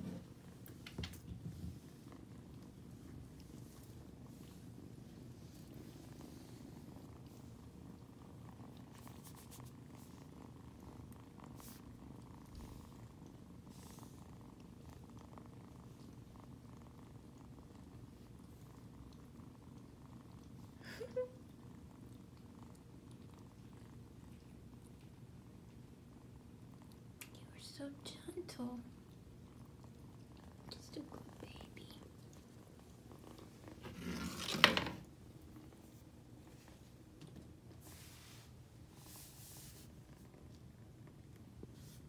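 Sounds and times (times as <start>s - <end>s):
kitten purring: 0.0s - 42.0s.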